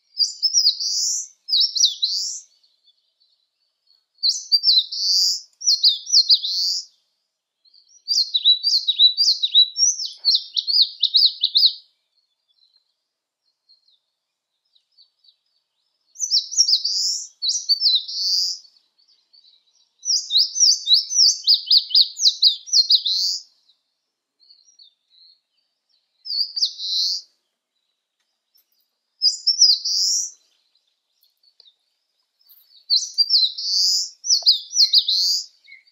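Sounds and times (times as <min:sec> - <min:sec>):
warbler singing: 0:00.0 - 0:35.9.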